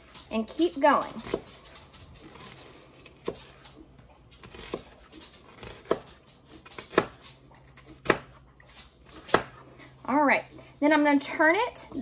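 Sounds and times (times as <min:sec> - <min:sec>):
knife cutting onion on board: 0:00.0 - 0:09.8.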